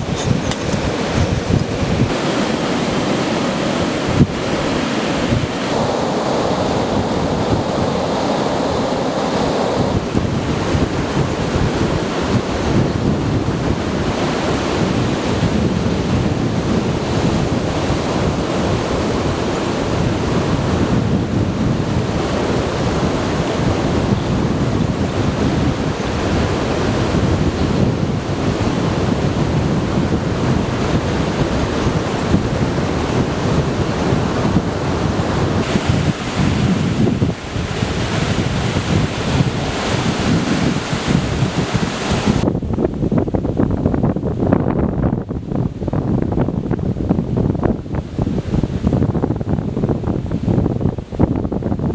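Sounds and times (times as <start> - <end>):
surf breaking on beach: 0.0 - 42.5
wind buffeting microphone: 0.0 - 51.9.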